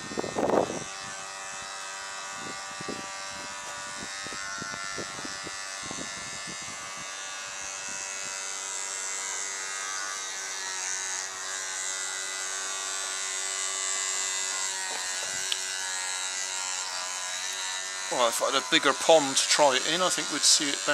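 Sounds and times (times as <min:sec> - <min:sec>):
electric toothbrush buzzing in water: 0:00.0 - 0:20.9.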